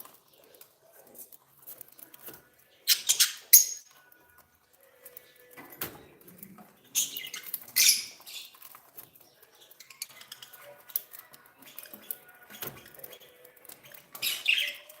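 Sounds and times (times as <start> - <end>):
budgies chirping: 0.0 - 4.2, 4.8 - 15.0.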